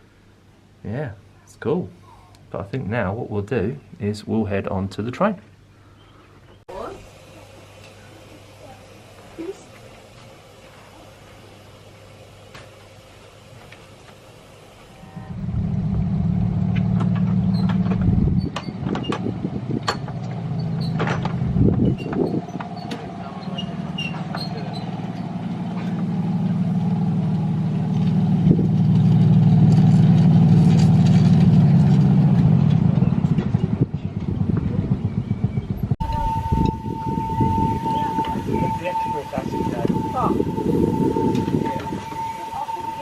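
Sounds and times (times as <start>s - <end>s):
miniature locomotive engine drone: 6.8s - 43.0s.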